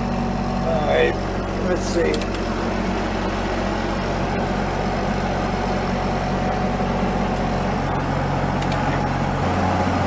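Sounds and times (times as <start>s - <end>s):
utility vehicle engine idling: 0.0s - 10.0s.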